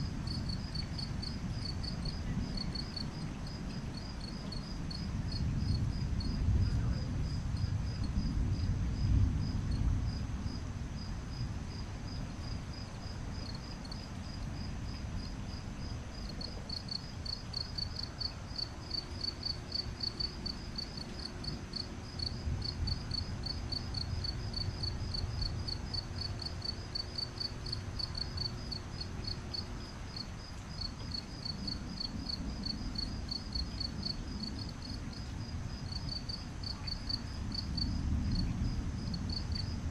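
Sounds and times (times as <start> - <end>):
distant thunder rumbling: 0.0 - 29.0, 31.4 - 39.9
crickets chirping: 0.0 - 39.9.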